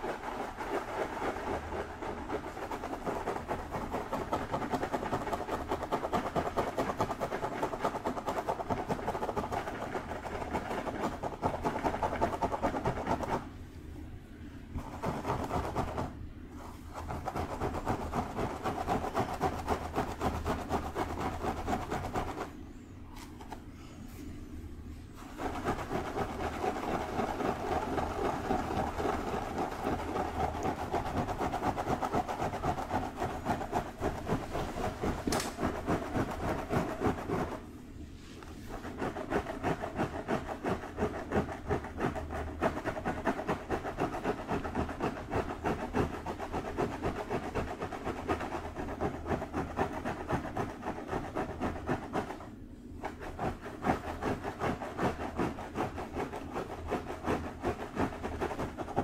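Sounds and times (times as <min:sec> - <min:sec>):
fingers scratching through hair: 0:00.0 - 0:13.5, 0:14.8 - 0:22.5, 0:25.2 - 0:59.0.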